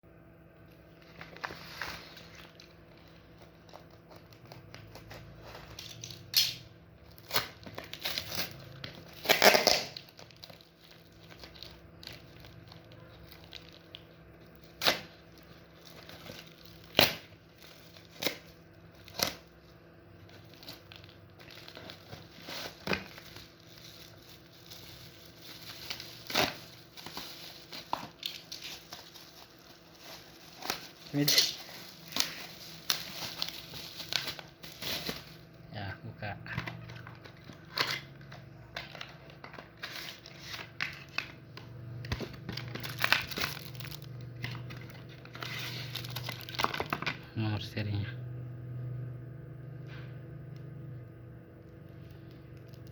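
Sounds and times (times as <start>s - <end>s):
parcel packaging tearing: 1.2s - 35.5s, 36.5s - 47.1s.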